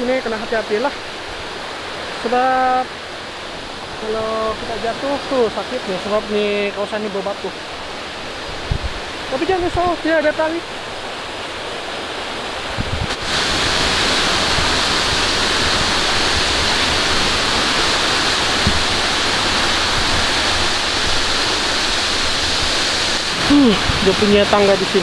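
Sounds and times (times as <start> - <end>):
waterfall rushing over rocks: 0.0 - 25.0.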